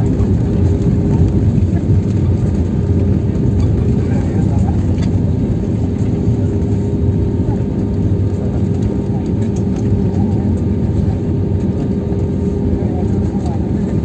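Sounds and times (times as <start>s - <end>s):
airliner cabin engine rumble: 0.0s - 14.0s
constant hum: 0.0s - 14.0s.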